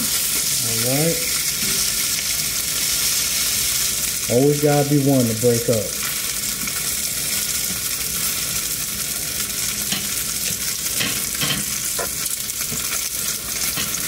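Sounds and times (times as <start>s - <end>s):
patties sizzling in a skillet: 0.0s - 14.0s.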